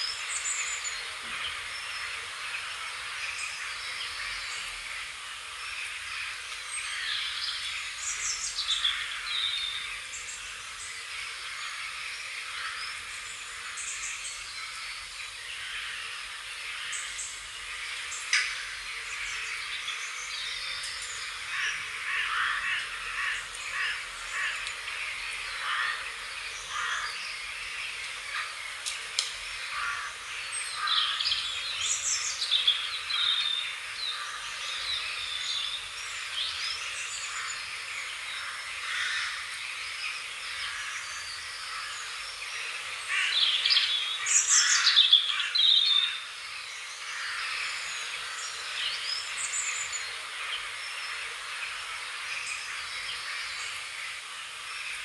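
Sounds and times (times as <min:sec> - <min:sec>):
steady background hiss: 0:00.0 - 0:55.0
wild birds singing and chirping: 0:00.0 - 0:55.0.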